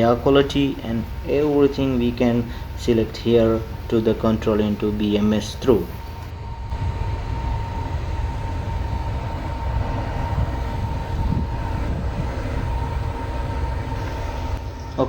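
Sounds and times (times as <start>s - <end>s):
air handling unit rumbling: 0.0s - 15.0s.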